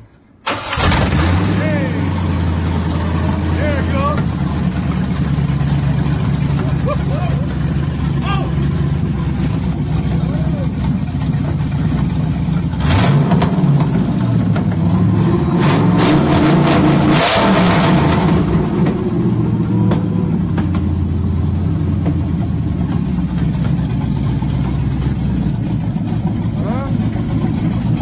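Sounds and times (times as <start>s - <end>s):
car engine revving and idling: 0.5s - 28.0s.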